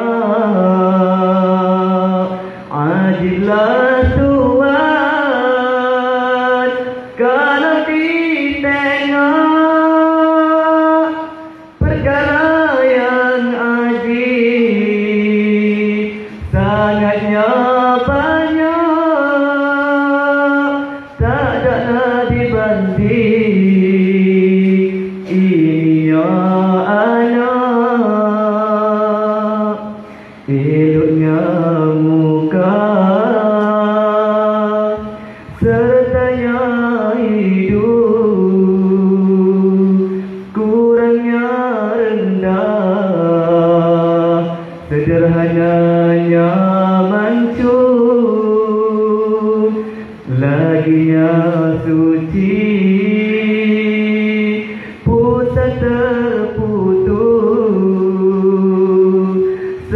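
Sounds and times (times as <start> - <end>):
man chanting: 0.0 - 59.9.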